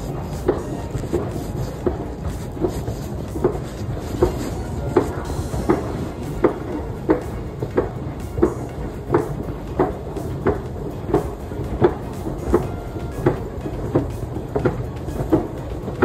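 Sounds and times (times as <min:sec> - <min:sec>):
footsteps on metal escalator steps: 0:00.0 - 0:16.0.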